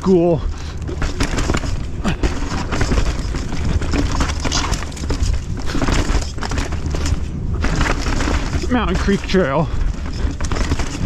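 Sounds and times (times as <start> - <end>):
low rumble: 0.0 - 11.0
mountain bike rattling: 0.0 - 11.0.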